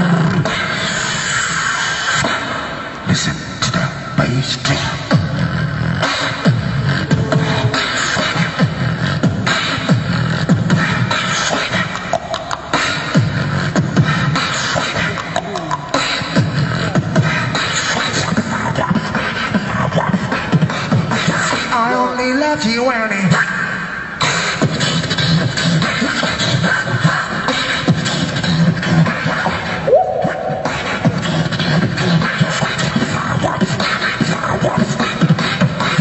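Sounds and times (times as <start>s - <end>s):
beatboxing through a microphone: 0.0s - 36.0s.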